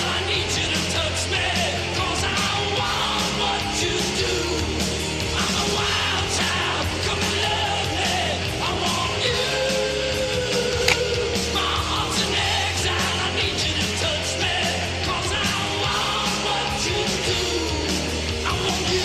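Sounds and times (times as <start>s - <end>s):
rock music with singer: 0.0s - 19.0s.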